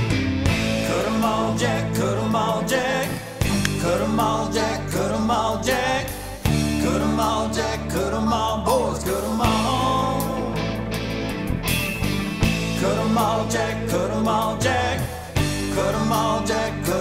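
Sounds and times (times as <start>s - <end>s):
song with singing: 0.5s - 11.1s, 12.4s - 17.0s.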